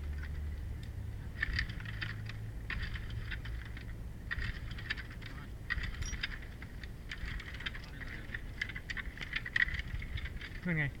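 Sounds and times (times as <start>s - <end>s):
low uneven rumble: 0.0s - 11.0s
metallic rattling and clinking: 1.3s - 11.0s.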